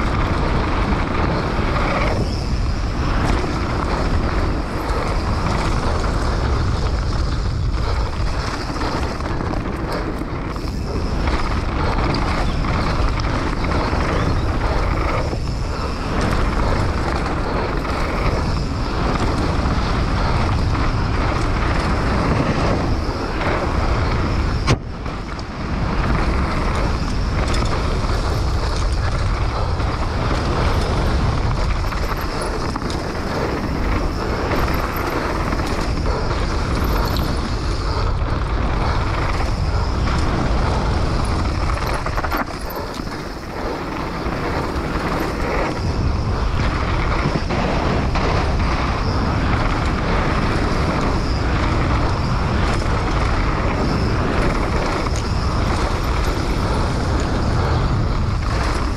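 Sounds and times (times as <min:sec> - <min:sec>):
bike rattling: 0:00.0 - 0:58.9
bike tyres rumbling over dirt: 0:00.0 - 0:58.9
wind buffeting microphone: 0:00.0 - 0:58.9.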